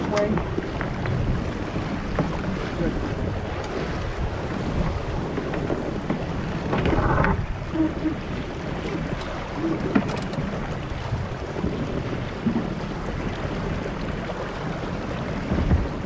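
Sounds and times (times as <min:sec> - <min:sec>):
wind and water rushing: 0:00.0 - 0:16.0.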